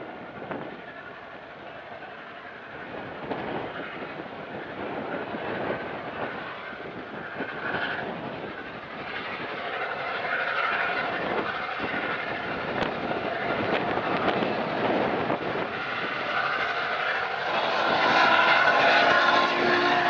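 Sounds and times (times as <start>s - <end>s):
steam train rumbling and clattering: 0.0s - 20.0s.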